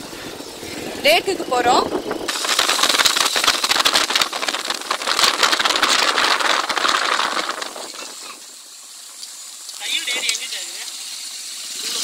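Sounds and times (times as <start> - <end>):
wind and road noise: 0.0 - 10.5.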